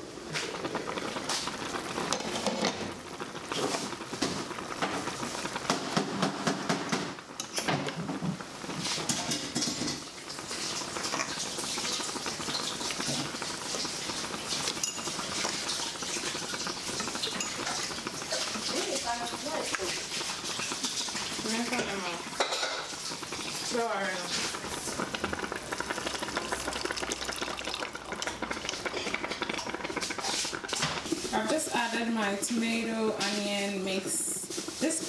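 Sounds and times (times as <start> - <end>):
soup bubbling: 0.0 - 35.0.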